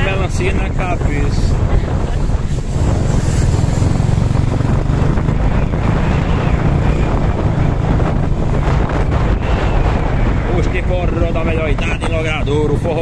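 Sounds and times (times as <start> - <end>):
vehicle driving: 0.0 - 13.0
wind buffeting microphone: 0.0 - 13.0.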